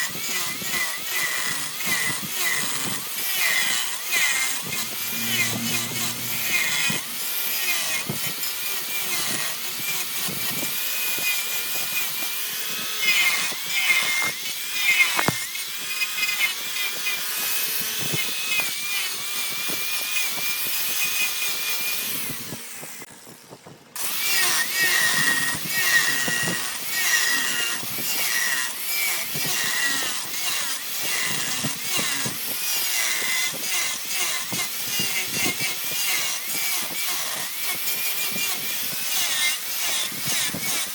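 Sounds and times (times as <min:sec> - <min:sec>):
wood lathe gouge cutting: 0:00.0 - 0:23.0, 0:24.0 - 0:40.9.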